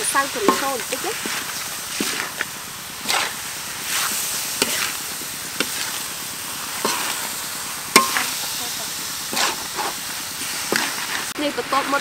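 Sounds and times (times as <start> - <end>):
metal spatula scraping a wok: 0.0 - 11.4
chicken sizzling in a wok: 0.0 - 12.0.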